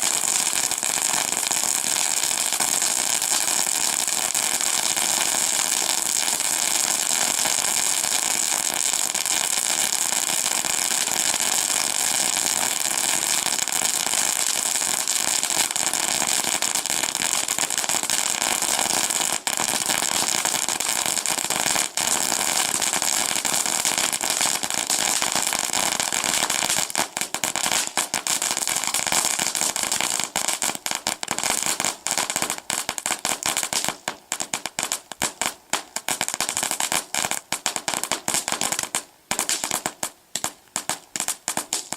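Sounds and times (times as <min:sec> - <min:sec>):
fireworks hissing and crackling: 0:00.0 - 0:41.9.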